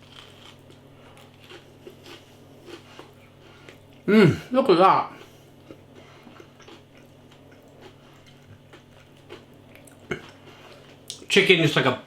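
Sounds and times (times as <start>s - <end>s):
faint chewing: 0.0s - 4.1s, 5.2s - 11.3s
low room hum: 0.0s - 12.0s.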